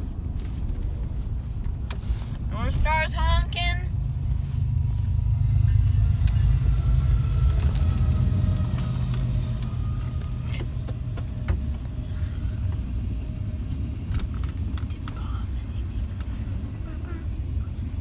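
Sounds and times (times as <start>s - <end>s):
train deep rumble: 0.0s - 18.0s.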